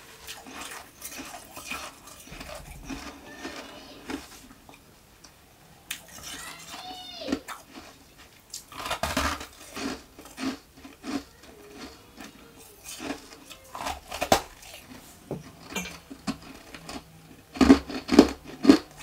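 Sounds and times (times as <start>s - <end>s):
ice being chewed crunching: 0.2s - 4.4s, 5.9s - 19.0s.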